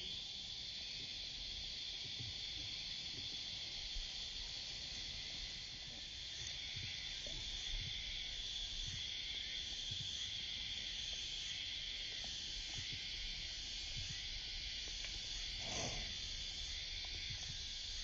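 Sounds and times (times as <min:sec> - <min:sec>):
cicada chorus: 0:00.0 - 0:18.0.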